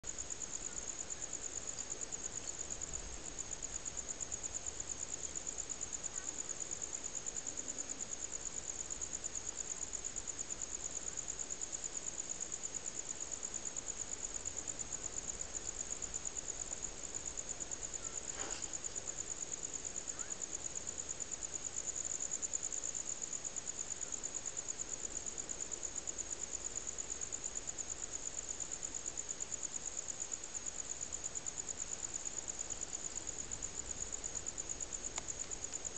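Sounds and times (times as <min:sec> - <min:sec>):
crickets trilling: 0:00.1 - 0:35.9.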